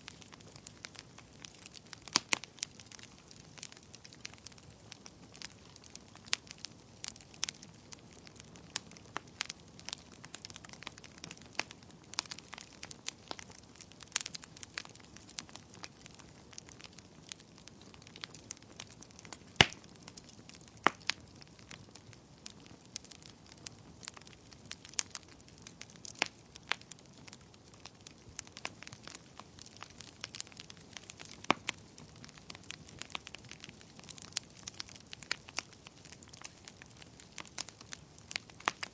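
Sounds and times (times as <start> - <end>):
logs crackling and popping: 0.0 - 38.9.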